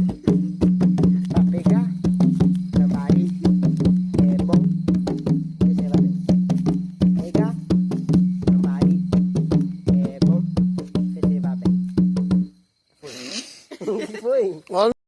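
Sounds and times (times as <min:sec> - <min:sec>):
sharp wooden knocks: 0:00.0 - 0:12.5.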